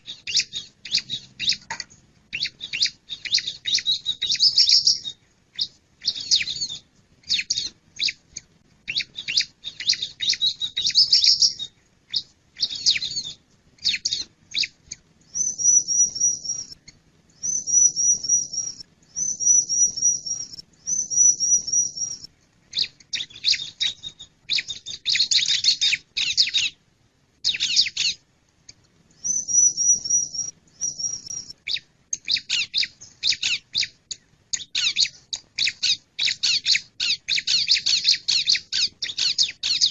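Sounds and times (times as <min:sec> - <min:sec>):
bird calling with sharp chirps: 0:00.0 - 0:26.8, 0:27.4 - 0:28.2, 0:29.2 - 0:39.9.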